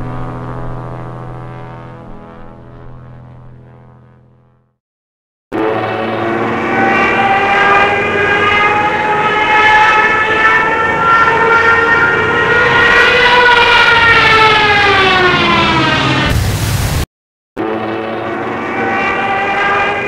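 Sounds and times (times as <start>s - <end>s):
turboprop airplane flying past: 0.0s - 4.7s, 5.6s - 17.0s, 17.6s - 20.0s.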